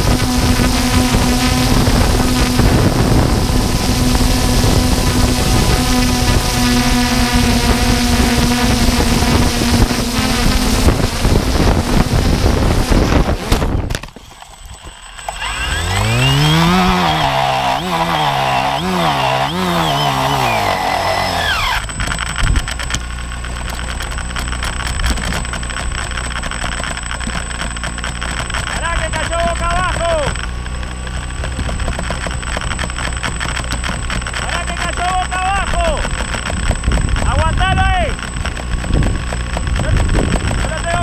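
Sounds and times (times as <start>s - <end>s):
drone propellers whining: 0.0s - 41.0s
wavering pitched whine: 0.0s - 41.0s.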